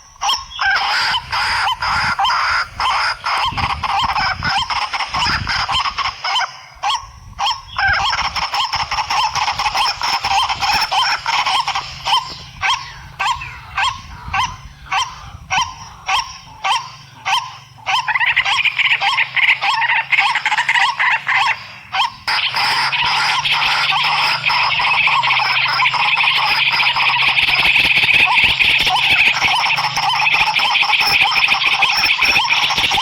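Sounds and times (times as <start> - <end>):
animal calls: 0.0 - 33.0
chorus of overlapping animal calls: 0.0 - 33.0.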